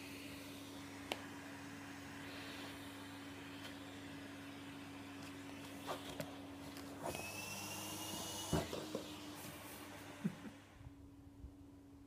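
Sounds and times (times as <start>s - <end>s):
vacuum nozzle whine and hiss: 0.0s - 10.8s
vacuum cleaner running: 0.0s - 11.0s.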